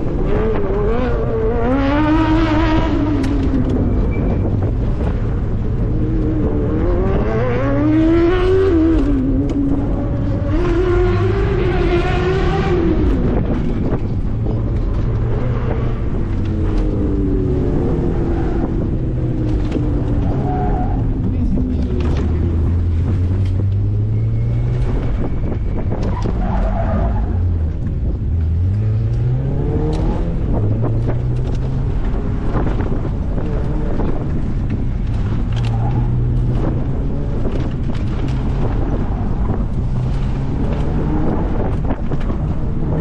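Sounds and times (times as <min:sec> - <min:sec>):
car engine accelerating: 0:00.0 - 0:43.0
wind and road noise: 0:00.0 - 0:43.0.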